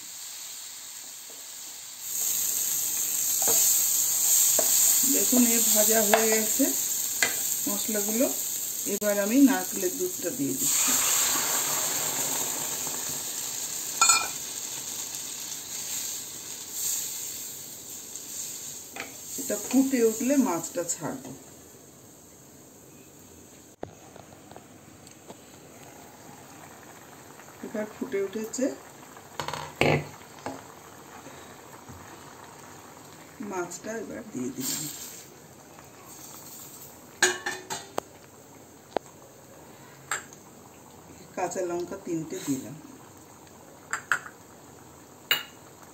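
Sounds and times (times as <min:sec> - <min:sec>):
curry simmering with hiss: 0:00.0 - 0:45.9
liquid sizzling in hot pan: 0:00.0 - 0:45.9.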